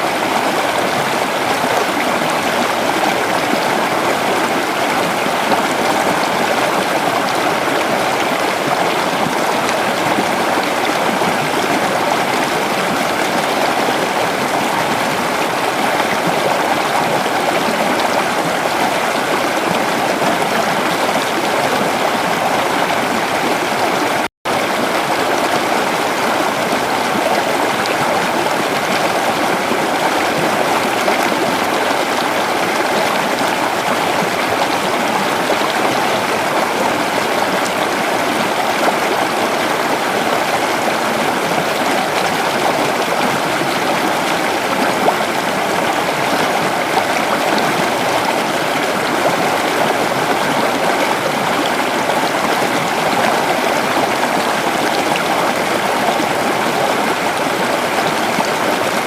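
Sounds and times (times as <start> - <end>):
creek water flowing over rocks: 0.0 - 59.0.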